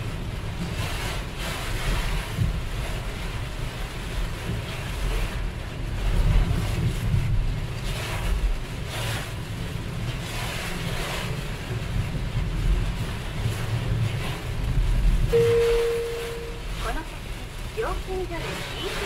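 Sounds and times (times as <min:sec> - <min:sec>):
heavy rain on car windshield: 0:00.0 - 0:19.0
road and wind rumble: 0:00.0 - 0:19.0.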